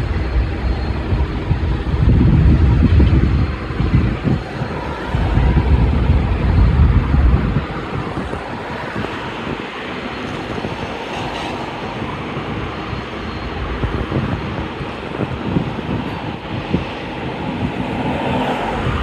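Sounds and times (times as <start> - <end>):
freight train rumbling by: 0.0 - 19.0
wind buffeting microphone: 0.0 - 19.0.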